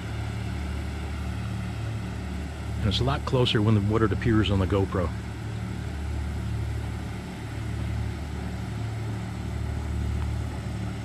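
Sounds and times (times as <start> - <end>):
boat diesel engine drone: 0.0 - 11.0.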